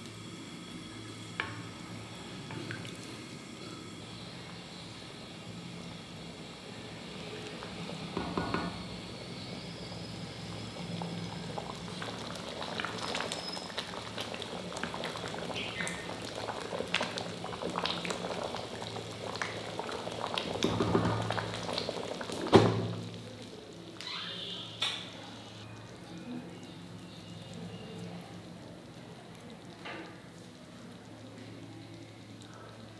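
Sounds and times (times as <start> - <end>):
pot bubbling at a boil: 0.0 - 32.9.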